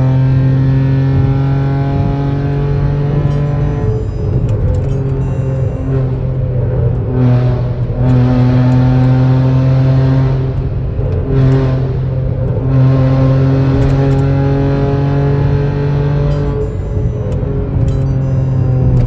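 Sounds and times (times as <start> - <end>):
car engine at raised revs: 0.0 - 19.0.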